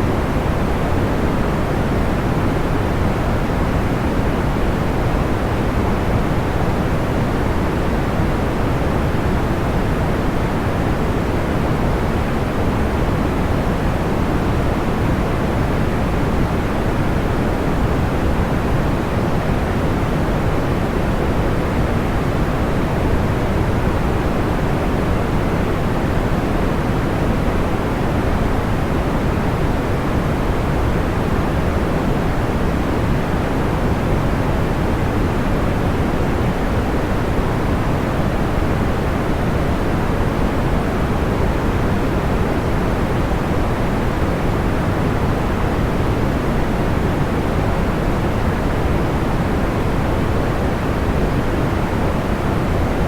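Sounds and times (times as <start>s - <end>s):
steady pink noise: 0.0s - 53.0s.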